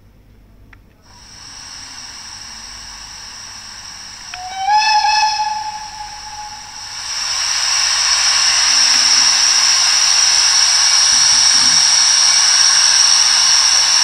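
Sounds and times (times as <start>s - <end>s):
steady steam hiss: 1.0s - 14.0s
steam locomotive whistle: 1.2s - 14.0s.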